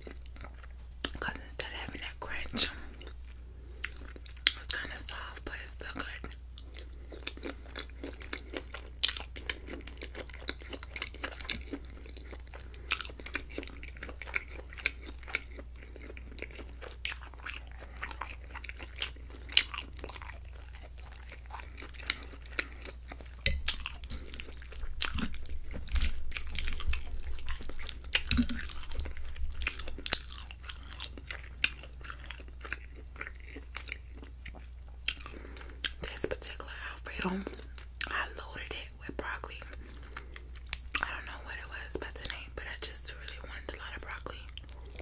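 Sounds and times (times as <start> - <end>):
close-miked chewing: 0.0 - 45.0.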